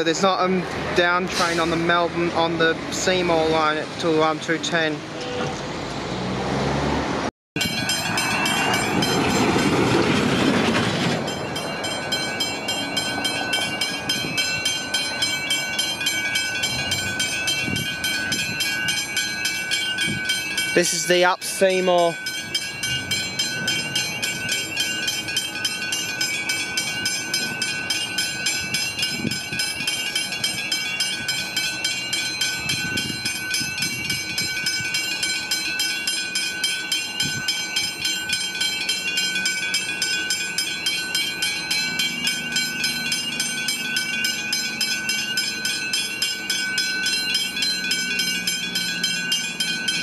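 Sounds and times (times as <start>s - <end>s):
level crossing bells ringing: 7.6s - 50.0s.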